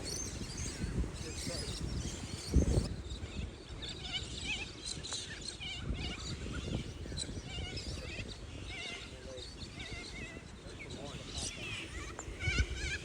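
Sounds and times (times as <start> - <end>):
birds chirping: 0.0 - 13.0
wind buffeting microphone: 0.0 - 13.0.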